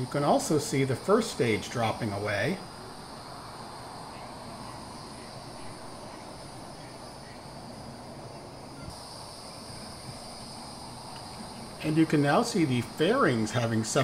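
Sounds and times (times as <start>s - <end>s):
crickets chirring: 0.0s - 14.0s
low background noise: 0.0s - 14.0s.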